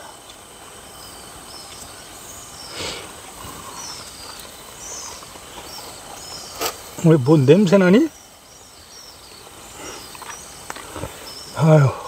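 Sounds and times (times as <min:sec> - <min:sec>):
high insect drone: 0:00.0 - 0:12.0
rustle: 0:00.0 - 0:12.0.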